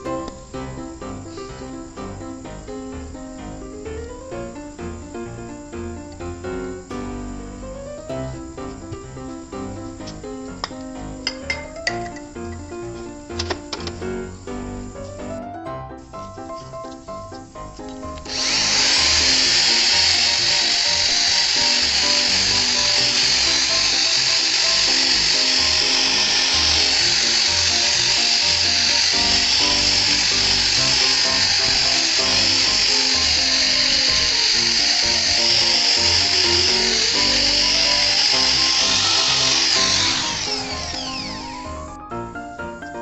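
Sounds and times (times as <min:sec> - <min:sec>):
workshop tool hissing: 0:00.0 - 0:15.3, 0:16.0 - 0:42.0
background music: 0:00.0 - 0:43.0.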